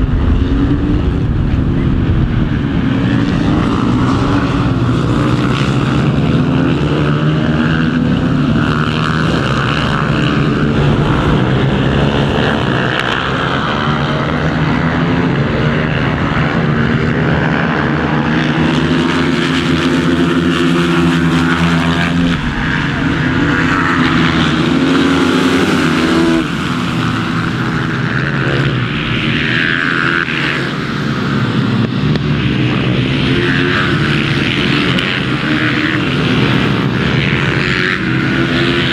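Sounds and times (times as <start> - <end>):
racing motorcycles revving past: 0.0 - 38.9.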